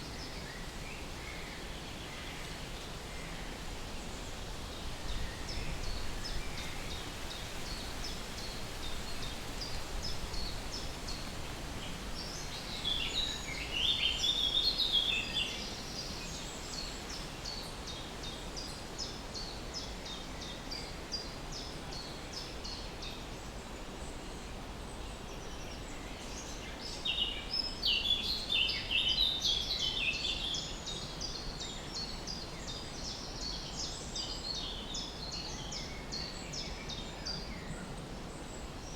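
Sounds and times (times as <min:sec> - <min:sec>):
low background hiss: 0:00.0 - 0:38.9.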